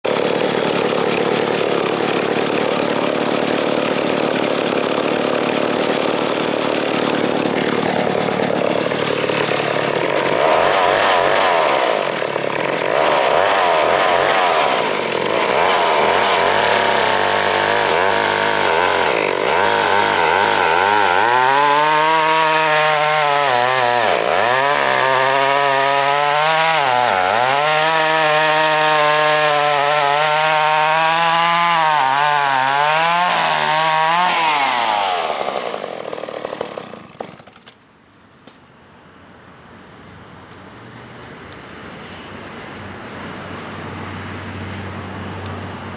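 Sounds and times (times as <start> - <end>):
chainsaw cutting a log: 0.0 - 37.8.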